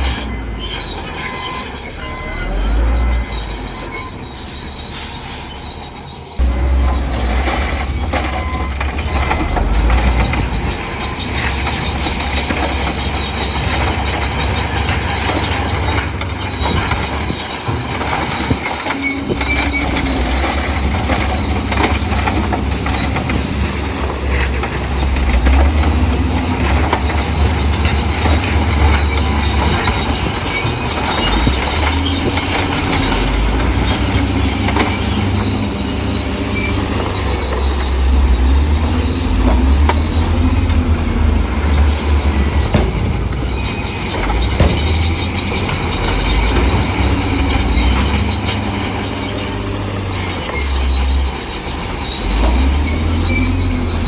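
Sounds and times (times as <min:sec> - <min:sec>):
bulldozer diesel engine rumbling: 0:00.0 - 0:54.0
steel tracks scraping rock: 0:00.0 - 0:54.0.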